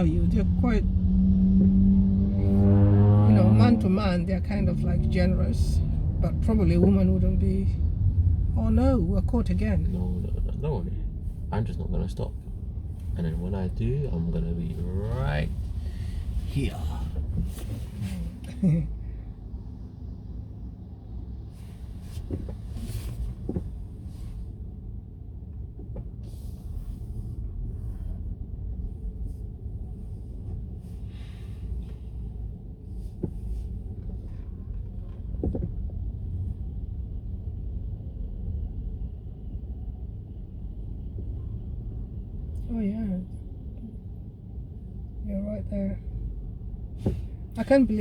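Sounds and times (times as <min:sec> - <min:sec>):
car engine rumble: 0:00.0 - 0:48.0
road noise: 0:00.0 - 0:48.0.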